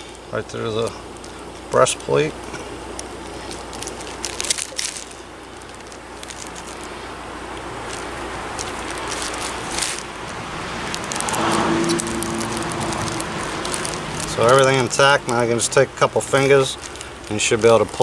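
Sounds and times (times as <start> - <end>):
low steady hum: 0.0 - 18.0
steady hiss: 0.0 - 18.0
plastic crinkling and clicks: 2.9 - 6.9, 7.5 - 18.0.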